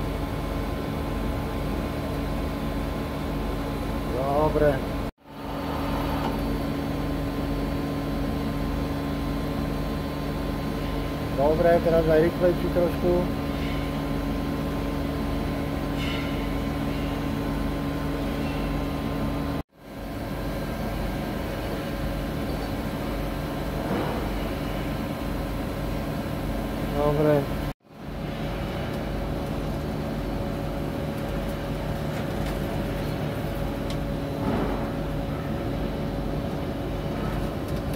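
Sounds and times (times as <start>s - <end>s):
lathe humming and whining: 0.0s - 37.9s.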